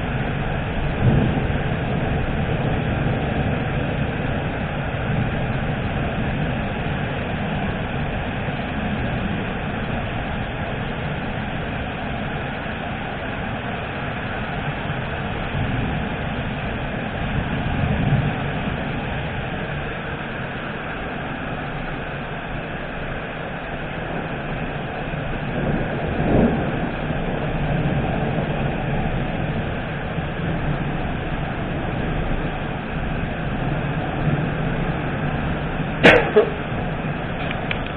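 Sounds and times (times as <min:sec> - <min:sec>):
low thunder rolling: 0:00.0 - 0:37.9
rushing wind or rain: 0:00.0 - 0:37.9.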